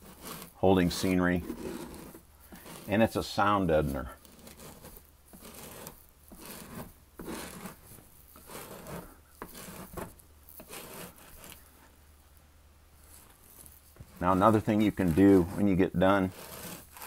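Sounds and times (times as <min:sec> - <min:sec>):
putty knife rasping scrapes: 0:00.0 - 0:11.8, 0:13.0 - 0:17.0.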